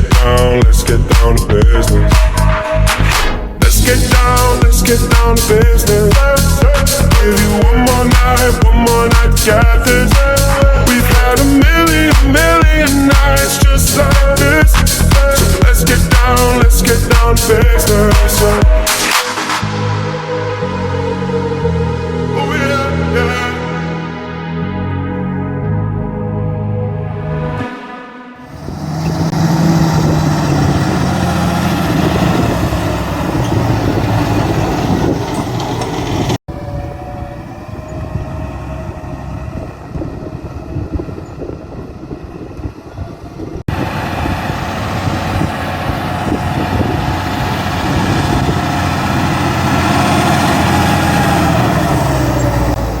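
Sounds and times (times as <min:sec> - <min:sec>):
tractor diesel engine running: 0:00.0 - 0:19.0, 0:28.4 - 0:53.0.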